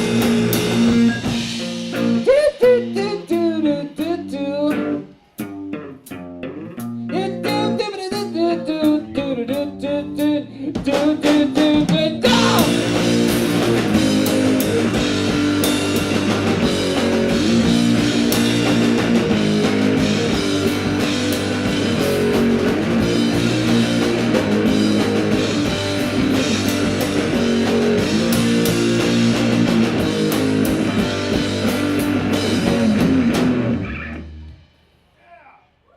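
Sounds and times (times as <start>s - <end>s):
live rock band playing: 0.0s - 34.8s.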